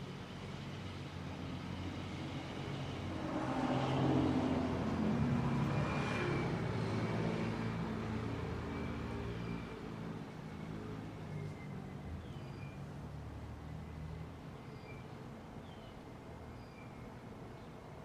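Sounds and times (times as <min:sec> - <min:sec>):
broad rush of noise: 0:00.0 - 0:18.0.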